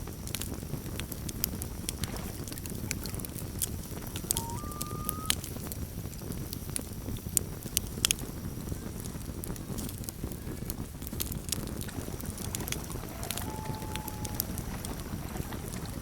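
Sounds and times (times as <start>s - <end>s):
campfire rumble: 0.0s - 16.0s
fire crackles and pops: 0.0s - 16.0s.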